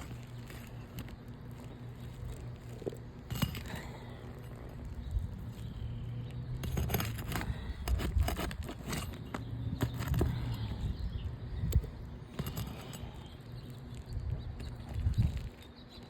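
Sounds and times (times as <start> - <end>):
pry tool scraping under shingles: 0.0 - 16.0.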